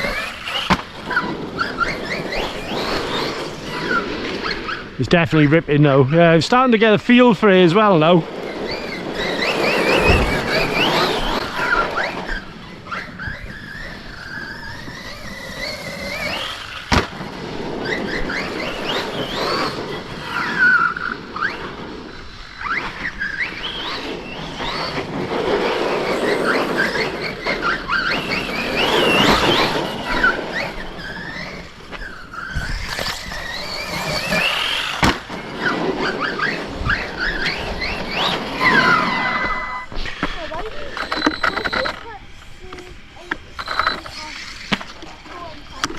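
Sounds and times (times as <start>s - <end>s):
electric motors whining: 0.0s - 6.2s, 7.4s - 45.9s
tyres scrabbling on dirt: 7.7s - 21.7s, 22.6s - 45.9s.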